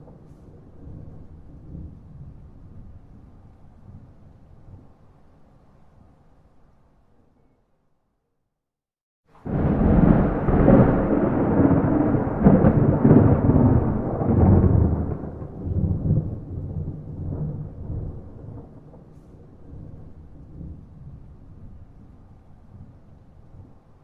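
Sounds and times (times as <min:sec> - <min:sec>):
thunder clap and rumble: 0:00.0 - 0:04.9, 0:09.4 - 0:24.0.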